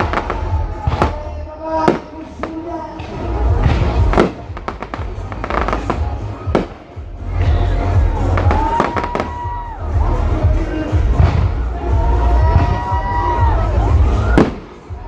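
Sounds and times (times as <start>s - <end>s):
fireworks bangs: 0.0s - 15.0s
music playing: 0.0s - 15.0s.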